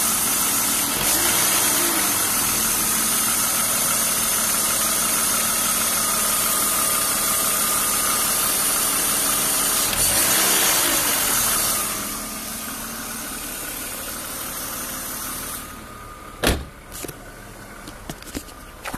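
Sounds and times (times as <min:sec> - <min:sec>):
engine revving: 0:00.0 - 0:15.8
engine hiss: 0:00.0 - 0:17.8
car engine idling: 0:00.0 - 0:18.9
engine rattle: 0:00.0 - 0:18.9.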